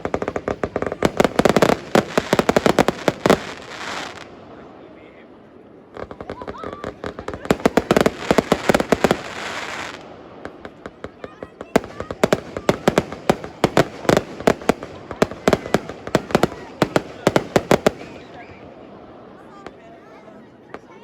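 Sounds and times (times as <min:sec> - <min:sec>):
fireworks hissing fizz: 0:00.0 - 0:05.0, 0:05.9 - 0:19.7
fireworks banging: 0:00.0 - 0:19.9.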